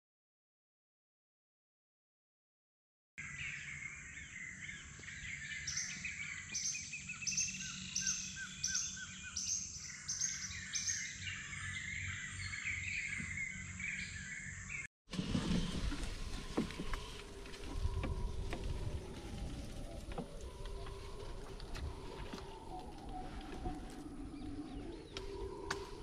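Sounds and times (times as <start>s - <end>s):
birds calling: 3.2s - 26.0s.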